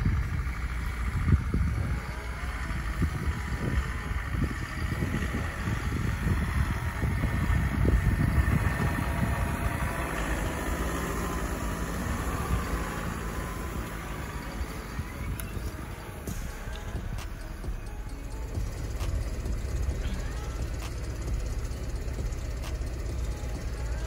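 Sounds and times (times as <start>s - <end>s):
gusty low rumble: 0.0s - 24.0s
off-road vehicle engine running: 0.0s - 24.0s.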